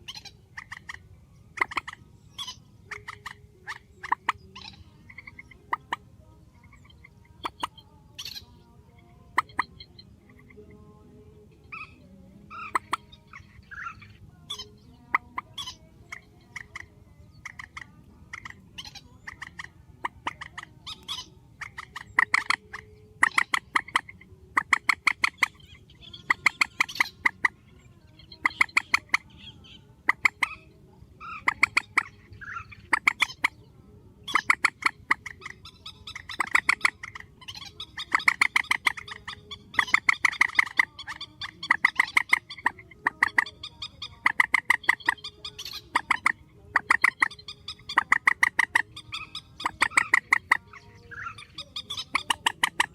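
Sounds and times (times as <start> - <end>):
bird clucking calls: 0.0 - 10.9, 11.6 - 52.9.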